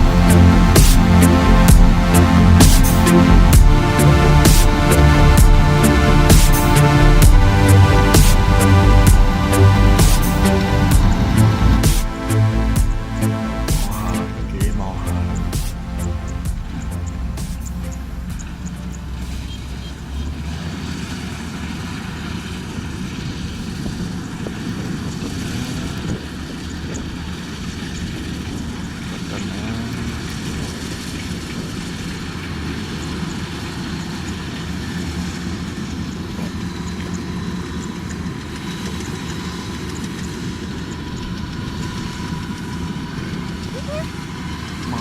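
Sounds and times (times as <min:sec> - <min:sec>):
combine harvester running: 0:00.0 - 0:45.0.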